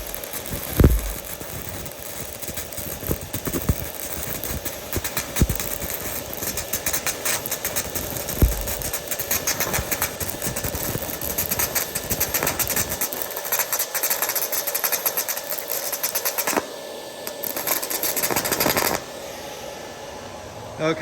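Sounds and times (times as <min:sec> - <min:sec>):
welding arc crackling and sizzling: 0:00.0 - 0:19.2
steady hum: 0:00.0 - 0:21.0.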